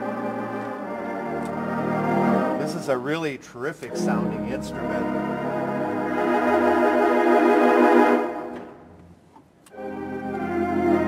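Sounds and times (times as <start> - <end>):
pipe organ chords: 0.0 - 11.0.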